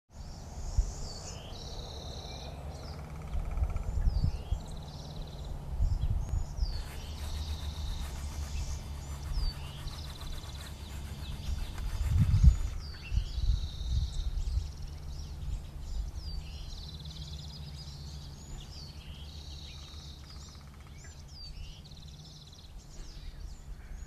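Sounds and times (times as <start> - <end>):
songbirds singing: 0.1 - 24.0.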